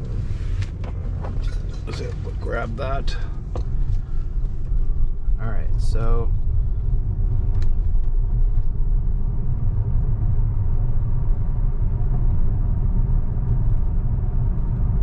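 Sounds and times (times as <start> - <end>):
road and tyre rumble in car: 0.0 - 15.0.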